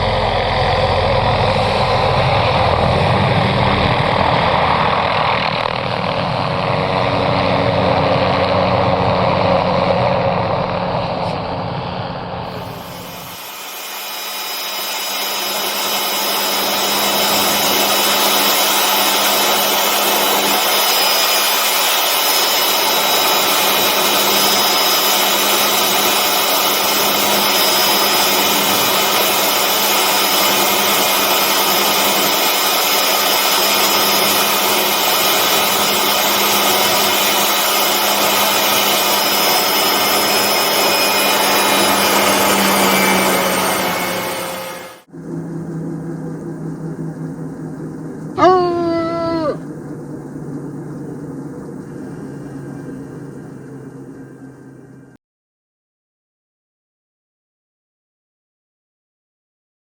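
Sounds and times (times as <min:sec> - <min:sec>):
helicopter turbine and rotor: 0:00.0 - 0:55.2.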